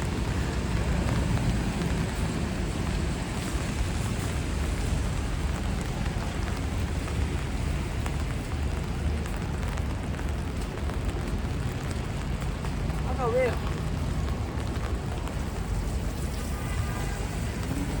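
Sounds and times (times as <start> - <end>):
passing traffic rumble: 0.0 - 18.0
rain falling: 0.0 - 18.0
raindrops ticking: 0.0 - 18.0.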